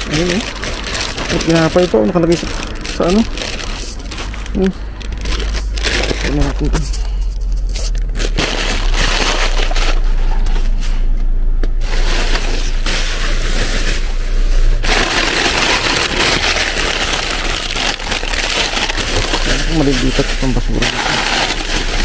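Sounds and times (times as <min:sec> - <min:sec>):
plastic bags rustling and crackling: 0:00.0 - 0:11.1, 0:11.8 - 0:22.0
steady low rumble: 0:00.0 - 0:22.0.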